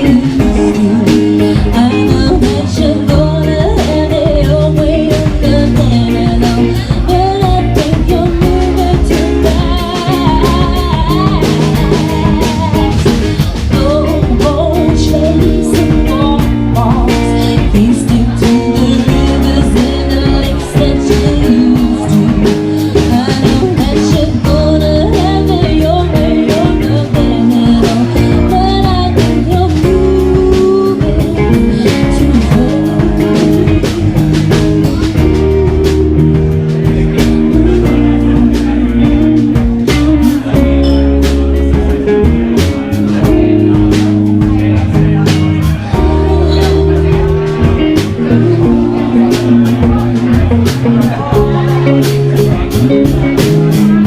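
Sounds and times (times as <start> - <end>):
bass and guitar: 0.0 - 54.0
drum beat: 0.0 - 54.0
person singing: 0.0 - 54.0.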